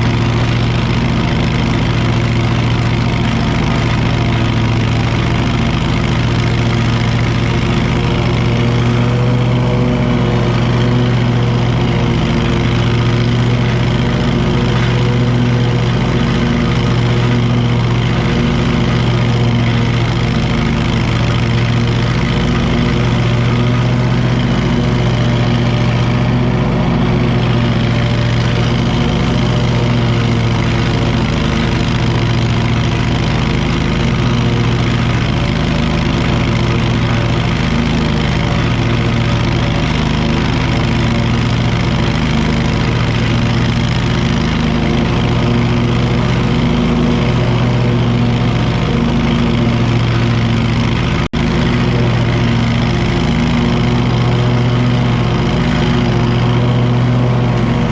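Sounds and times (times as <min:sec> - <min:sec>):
mower engine running: 0:00.0 - 0:57.9.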